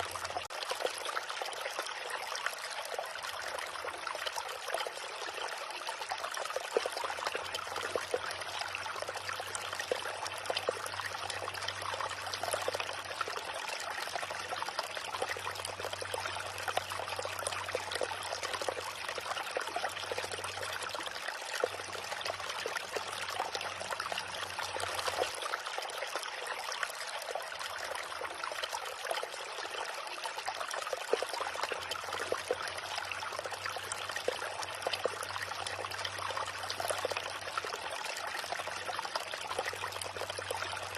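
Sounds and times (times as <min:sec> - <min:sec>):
small river babbling: 0:00.0 - 0:40.9.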